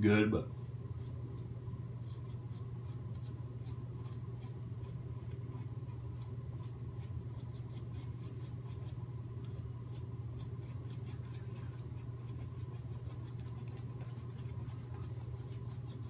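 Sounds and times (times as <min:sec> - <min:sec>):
steady low hum: 0:00.0 - 0:16.0
shaving brush scrubbing face: 0:00.5 - 0:16.0.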